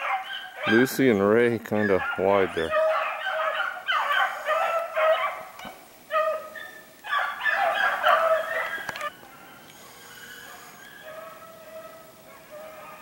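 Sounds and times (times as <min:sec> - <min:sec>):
hounds baying: 0:00.0 - 0:01.1, 0:01.7 - 0:13.0.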